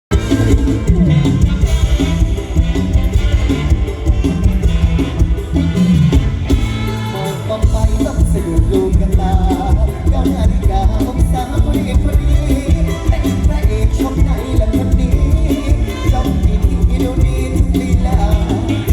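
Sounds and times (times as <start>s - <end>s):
driving drum and bass beat: 0.0s - 18.9s
higher melodic line: 0.1s - 18.9s
stage band music: 0.1s - 18.9s.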